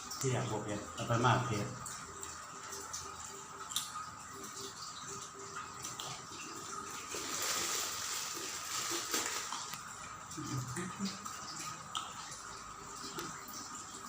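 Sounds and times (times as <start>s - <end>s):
water pouring and splashing: 0.0s - 14.0s.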